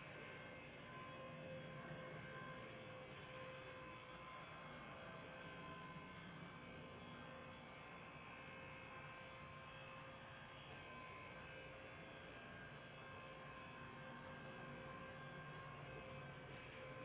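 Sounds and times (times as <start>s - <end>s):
model train motor whine: 0.0s - 17.0s.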